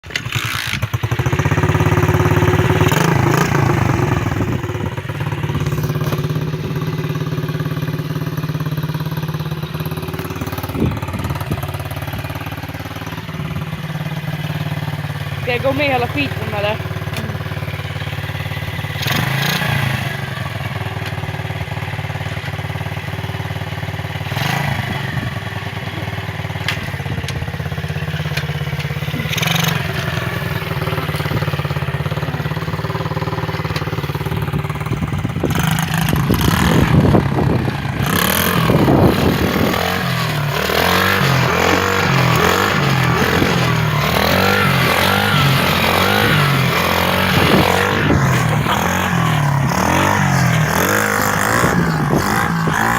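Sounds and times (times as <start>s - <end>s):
dirt bike engine idling and revving: 0.0s - 52.9s.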